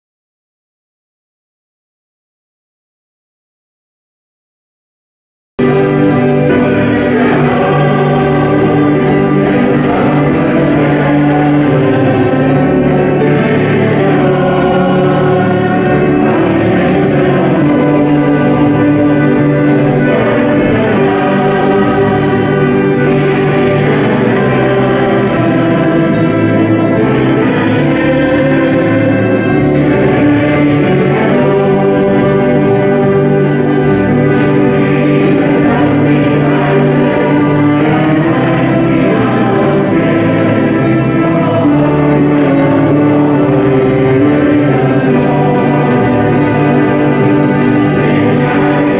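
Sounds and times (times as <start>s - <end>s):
accordion: 5.6s - 48.9s
banjo: 5.6s - 48.9s
fiddle: 5.6s - 48.9s
guitar: 5.6s - 48.9s
mixed choir singing gospel: 5.6s - 48.9s.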